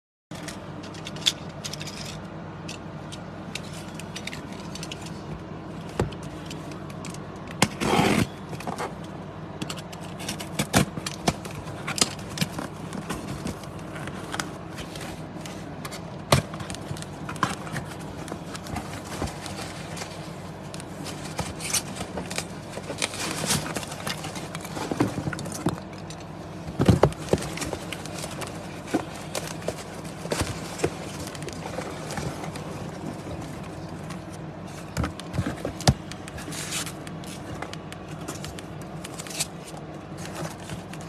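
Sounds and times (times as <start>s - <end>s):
steady low hum: 0.3s - 41.0s.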